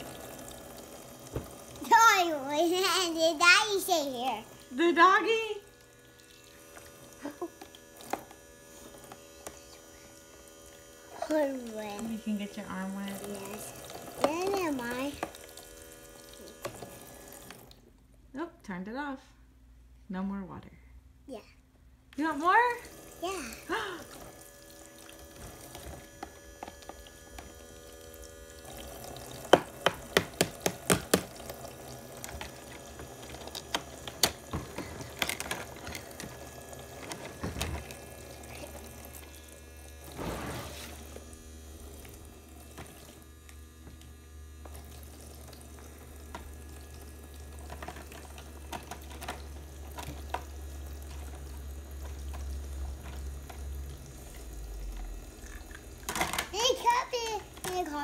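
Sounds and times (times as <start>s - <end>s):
water running into plastic basin: 0.0s - 17.8s, 22.2s - 58.0s.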